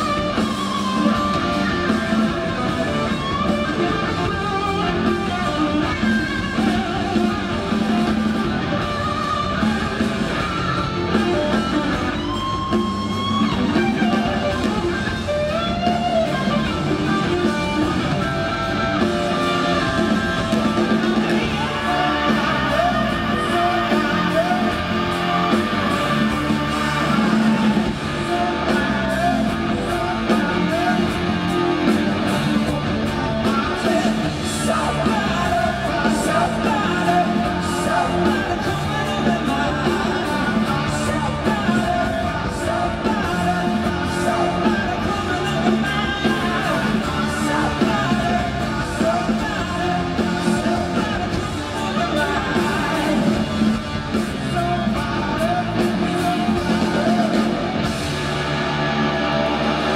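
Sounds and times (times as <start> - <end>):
man singing lead vocals: 0.0 - 58.3
live hard rock band: 0.0 - 59.9.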